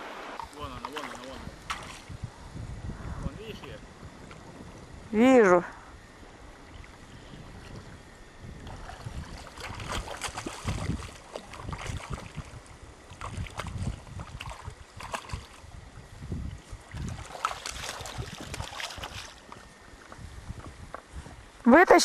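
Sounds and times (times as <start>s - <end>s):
wind buffeting microphone: 0.0s - 21.6s
river: 0.0s - 22.0s.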